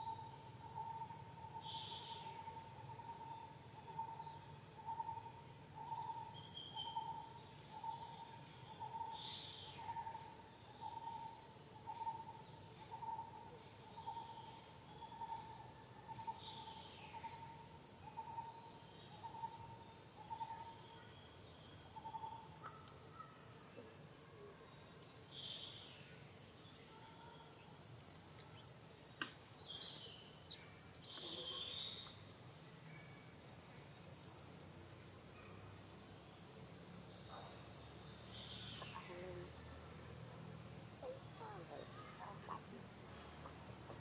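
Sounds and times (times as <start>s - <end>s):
faint high bird chirps: 0.0s - 34.5s, 37.1s - 40.3s, 41.0s - 44.0s.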